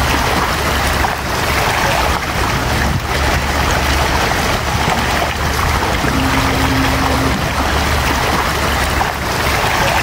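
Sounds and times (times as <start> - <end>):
fish splashing in water: 0.0 - 10.0.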